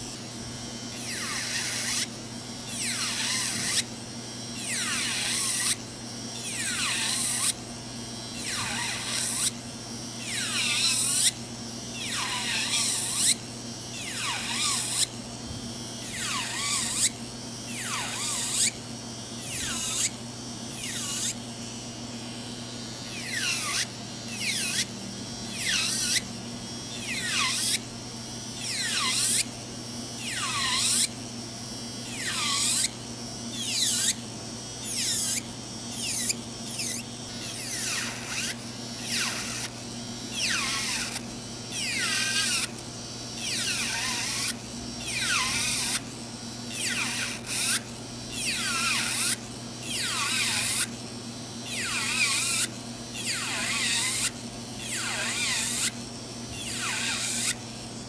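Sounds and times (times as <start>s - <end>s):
nail drill grinding whine: 0.0s - 9.6s, 10.2s - 29.6s, 30.2s - 31.2s, 32.0s - 51.0s, 51.6s - 57.9s.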